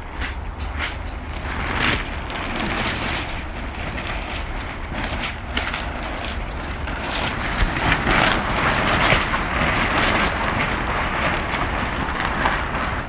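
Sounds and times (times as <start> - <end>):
wind buffeting microphone: 0.0 - 13.0
sharp crackles and snaps: 0.2 - 13.0.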